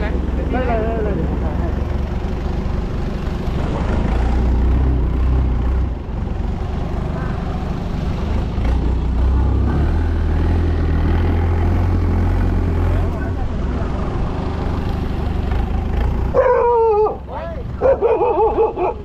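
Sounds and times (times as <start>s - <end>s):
boat engine low rumble: 0.0s - 19.0s.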